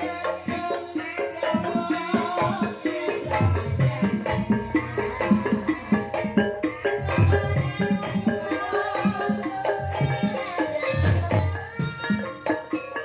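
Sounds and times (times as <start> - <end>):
percussive rhythm with low beats: 0.0 - 13.0.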